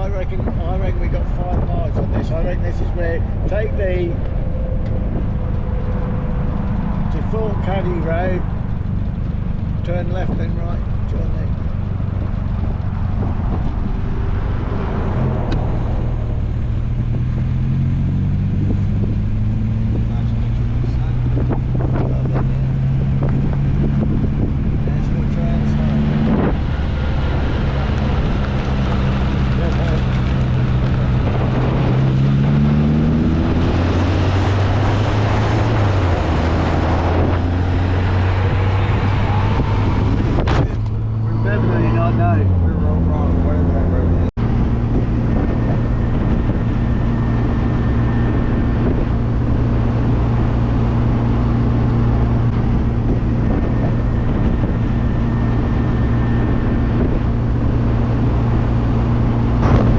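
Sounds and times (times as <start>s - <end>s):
car engine running: 0.0s - 59.9s
road noise: 0.0s - 59.9s.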